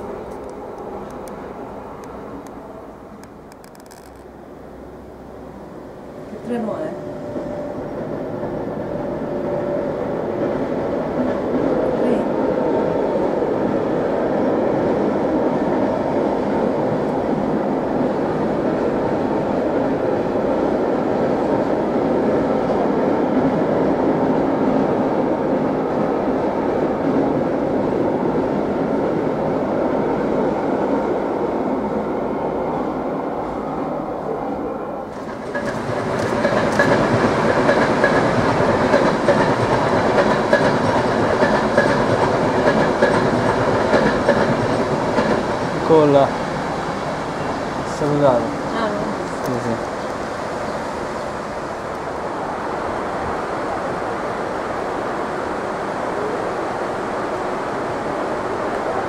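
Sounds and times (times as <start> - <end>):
freight train rumbling past: 0.0 - 3.5, 4.3 - 59.0
passenger train passing: 0.0 - 59.0.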